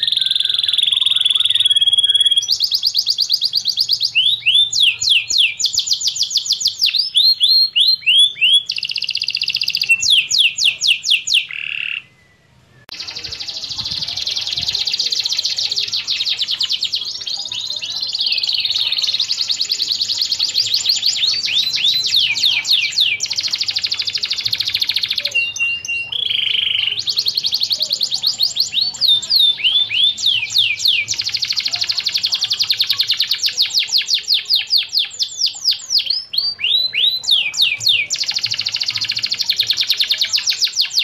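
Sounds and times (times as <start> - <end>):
canary singing trills: 0.0 - 41.0.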